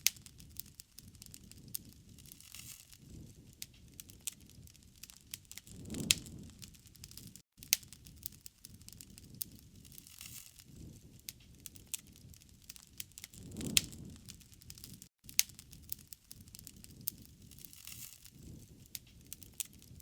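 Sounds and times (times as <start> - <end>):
fire crackling and popping: 0.0 - 20.0
low rumble of burning wood: 0.0 - 20.0.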